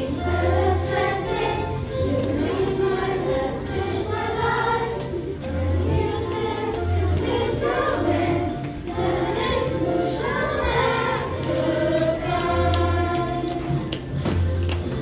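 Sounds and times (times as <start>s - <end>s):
children's choir singing: 0.0s - 15.0s
instrumental accompaniment: 0.0s - 15.0s.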